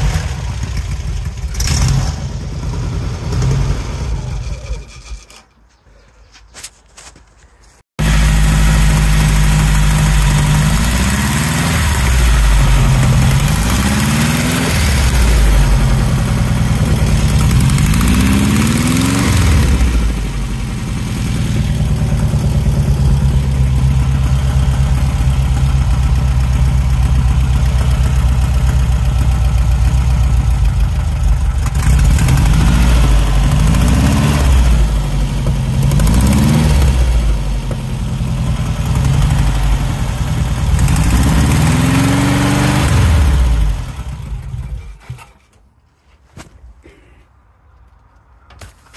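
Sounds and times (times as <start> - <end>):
car engine running and revving: 0.0 - 4.2, 8.0 - 44.7.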